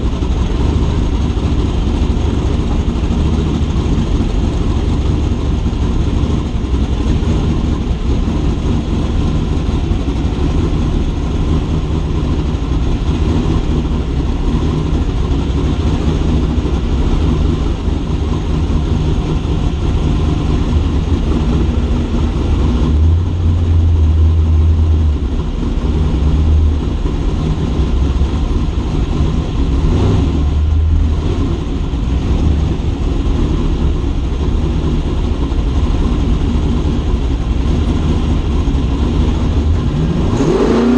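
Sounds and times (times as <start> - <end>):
race car engine rumbling: 0.0 - 40.9.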